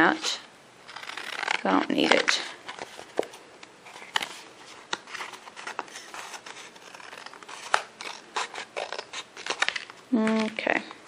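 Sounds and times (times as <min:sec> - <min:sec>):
paper rustling: 0:01.0 - 0:10.8.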